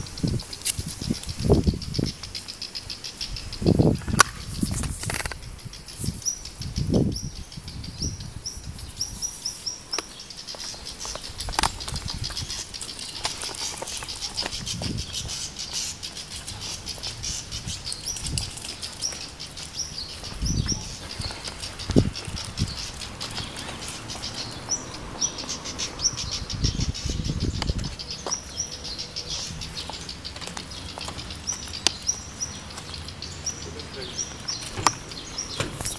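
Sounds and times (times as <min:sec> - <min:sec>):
bird chirping in alarm: 0:00.0 - 0:35.9.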